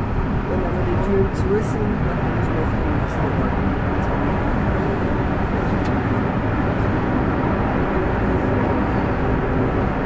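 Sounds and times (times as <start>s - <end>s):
low cabin noise: 0.0s - 10.0s.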